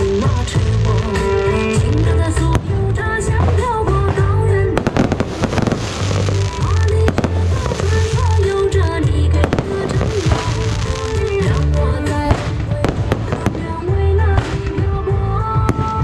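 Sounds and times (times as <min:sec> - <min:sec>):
fireworks bursting: 0:00.0 - 0:16.0
loud music with heavy bass: 0:00.0 - 0:16.0.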